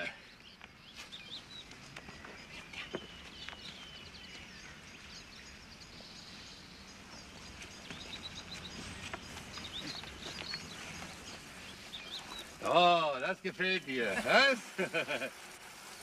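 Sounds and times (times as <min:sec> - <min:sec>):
small birds chirping: 0:00.0 - 0:16.0
steady low hiss: 0:00.0 - 0:16.0.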